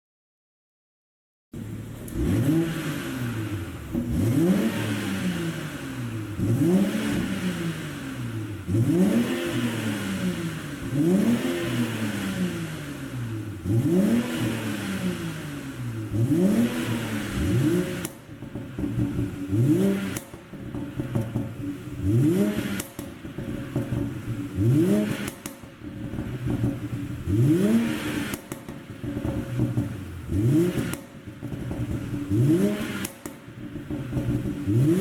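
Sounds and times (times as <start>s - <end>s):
car engine revving with exhaust pops: 1.6s - 35.0s.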